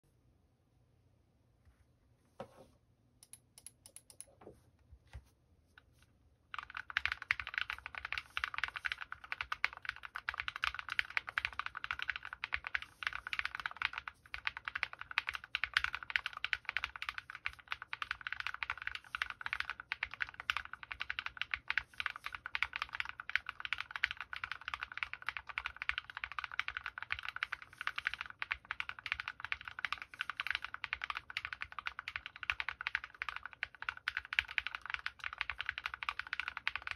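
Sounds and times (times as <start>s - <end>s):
fast mechanical keyboard typing: 6.5s - 36.9s.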